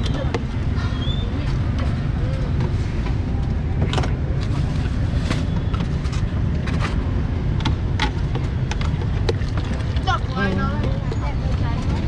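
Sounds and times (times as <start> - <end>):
low rumble of passing traffic: 0.0 - 12.0.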